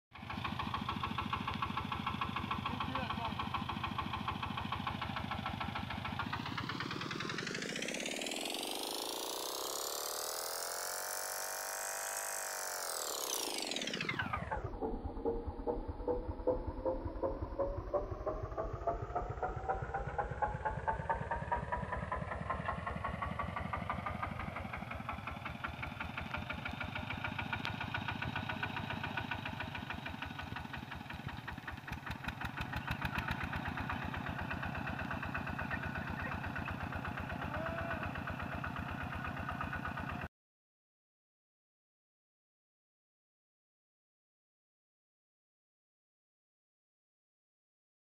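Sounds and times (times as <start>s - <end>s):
diesel engine chugging: 0.1s - 12.1s, 13.3s - 40.3s.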